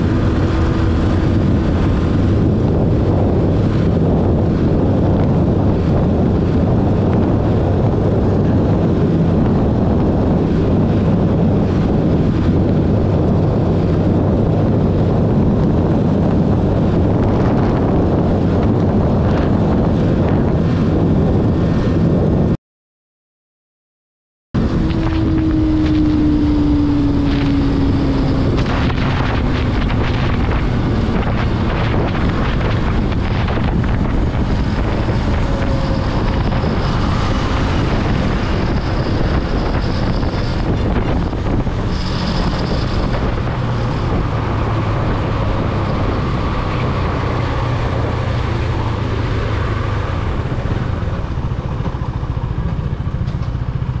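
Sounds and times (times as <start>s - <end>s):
motorcycle engine running: 0.0s - 21.8s, 24.6s - 54.0s
wind rush on microphone: 0.0s - 22.6s, 24.6s - 54.0s.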